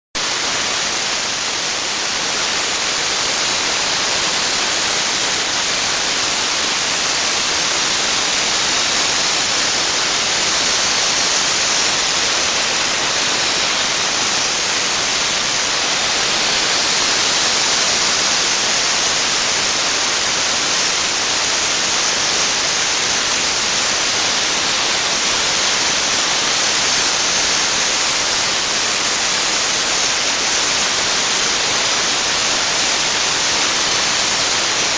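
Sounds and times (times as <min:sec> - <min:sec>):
dry-ice blasting gun hissing: 0:00.2 - 0:34.9.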